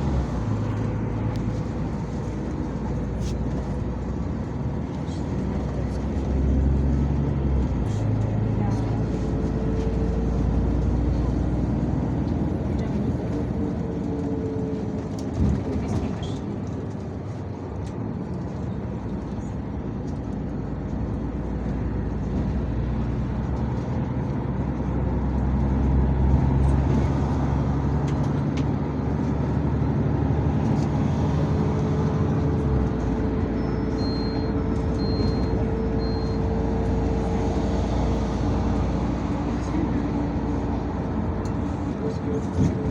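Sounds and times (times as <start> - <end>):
bus engine and road noise: 0.0 - 42.9.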